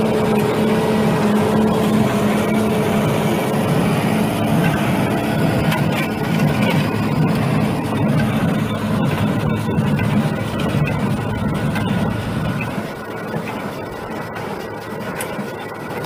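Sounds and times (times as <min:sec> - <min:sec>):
hay baler working: 0:00.0 - 0:16.0
tractor engine running: 0:00.0 - 0:16.0.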